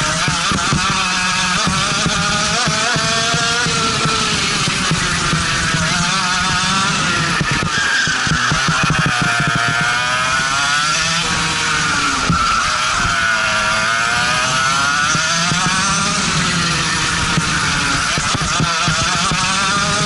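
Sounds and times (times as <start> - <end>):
go-kart engine revving: 0.0 - 20.0.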